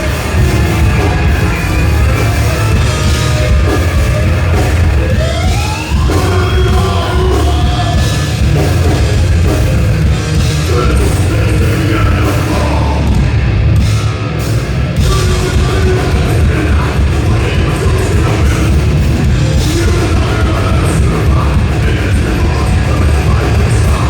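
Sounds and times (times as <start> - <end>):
bass guitar: 0.0 - 24.0
distorted guitars: 0.0 - 24.0
drum kit: 0.0 - 24.0.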